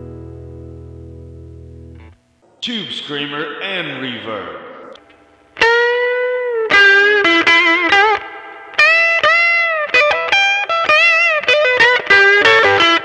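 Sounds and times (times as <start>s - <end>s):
overdriven electric guitar riff: 0.0s - 2.4s, 5.0s - 13.0s.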